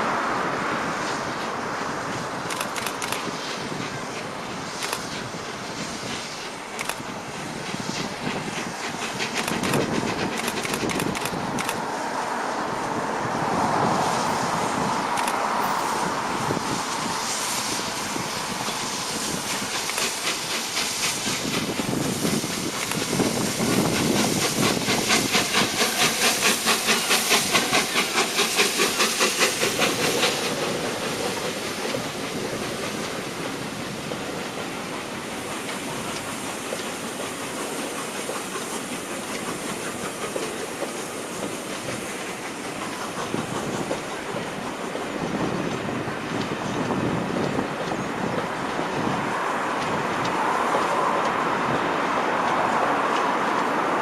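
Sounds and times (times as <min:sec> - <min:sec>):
hissing steam: 0:00.0 - 0:54.0
train rolling by: 0:00.0 - 0:54.0
steam locomotive exhaust beat: 0:00.1 - 0:54.0.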